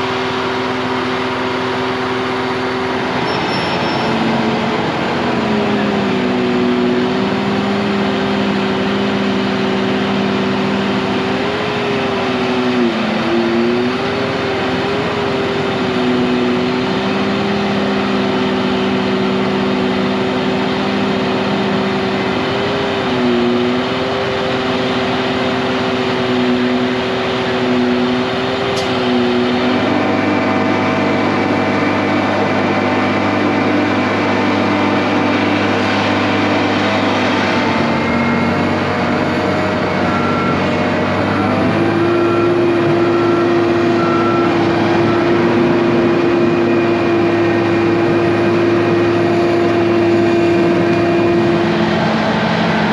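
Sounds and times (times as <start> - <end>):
vehicle engine running: 0.0 - 52.9.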